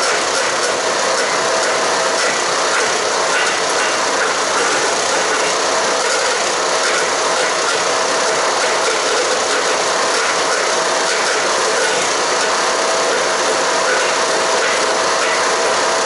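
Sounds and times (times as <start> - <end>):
engine running: 0.0 - 16.0
wood chipper grinding branches: 0.0 - 16.0.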